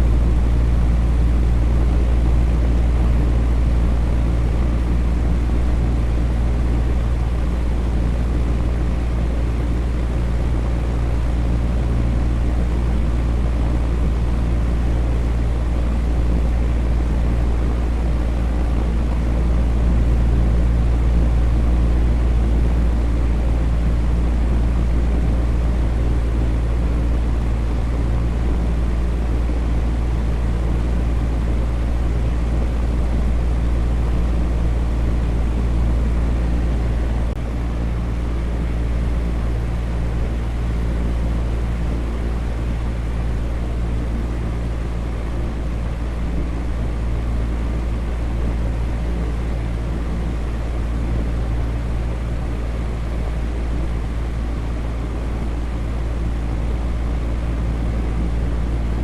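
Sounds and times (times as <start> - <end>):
fan running: 0.0 - 59.0
low hum: 0.0 - 59.0.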